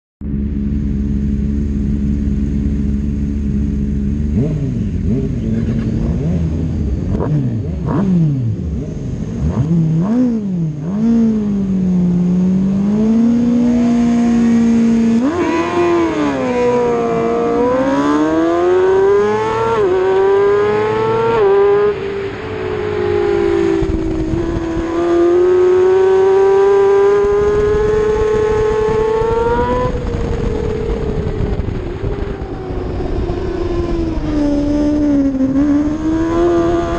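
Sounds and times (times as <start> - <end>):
motorcycle engine revving: 0.2 - 36.9.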